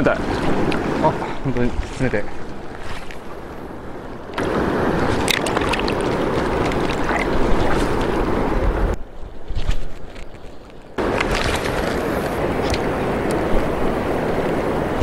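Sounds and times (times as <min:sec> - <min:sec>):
water sloshing from wading: 0:00.0 - 0:15.0.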